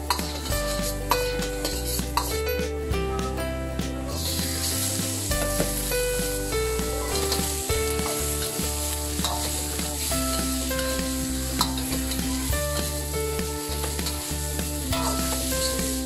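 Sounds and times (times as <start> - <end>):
metal ladle scraping a wok: 0.0 - 2.4, 4.1 - 16.0
chicken sizzling in a wok: 0.0 - 2.5, 3.8 - 16.0
background music: 0.0 - 16.0.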